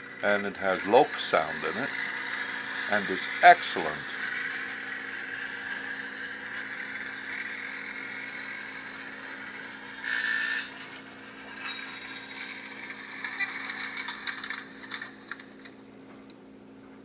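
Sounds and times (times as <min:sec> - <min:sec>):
model streetcar running hum: 0:00.0 - 0:15.8.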